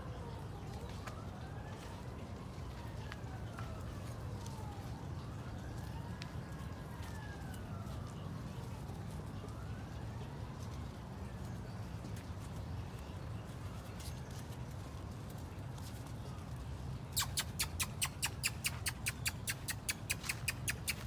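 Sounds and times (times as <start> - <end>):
emergency vehicle siren wailing: 0.0 - 21.0.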